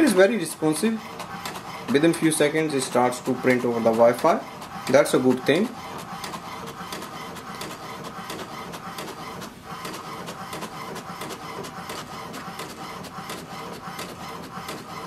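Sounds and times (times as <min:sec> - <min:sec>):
inkjet printer printing: 0:00.0 - 0:15.0.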